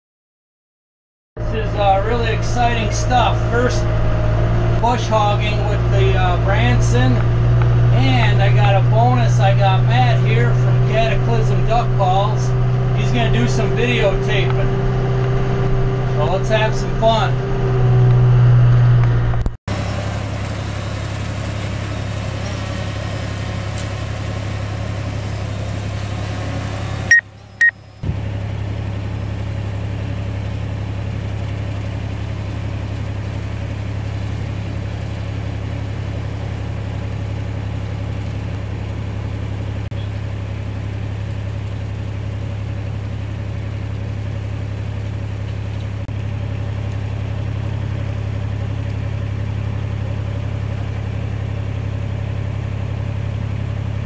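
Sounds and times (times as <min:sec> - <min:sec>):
tractor diesel engine droning: 0:01.4 - 0:54.0.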